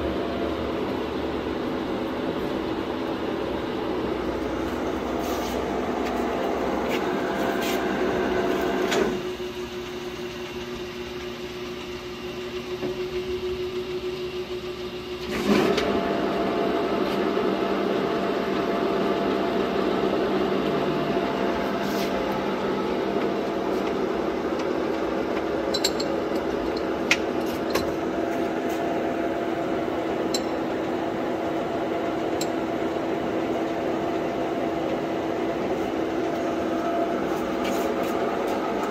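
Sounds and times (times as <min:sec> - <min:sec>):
lathe running: 0:00.0 - 0:38.9.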